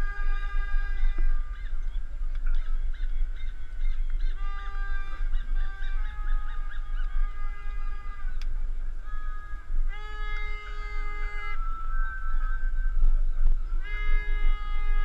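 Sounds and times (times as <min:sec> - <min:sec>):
horns blowing long notes: 0:00.0 - 0:02.5, 0:04.2 - 0:15.0
steady low rumble: 0:00.0 - 0:15.0.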